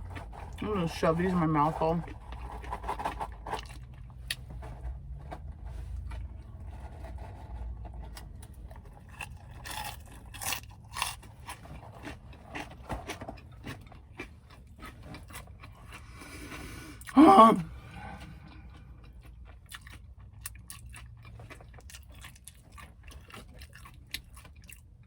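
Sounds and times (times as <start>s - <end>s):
crunching and chewing snacks: 0.0s - 25.0s
low steady hum: 0.0s - 25.0s.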